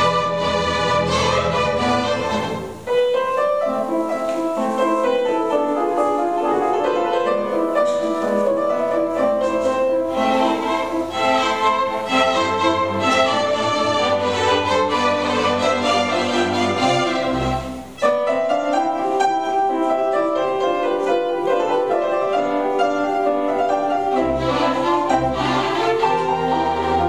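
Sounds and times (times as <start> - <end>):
bowed strings: 0.0 - 27.0
piano: 0.0 - 27.0.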